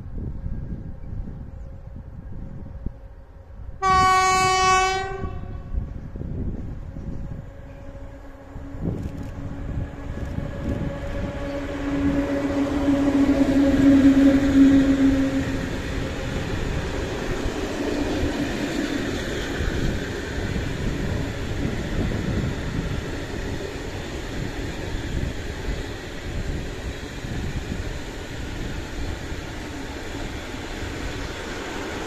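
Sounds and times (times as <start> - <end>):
electric locomotive humming: 0.0 - 32.0.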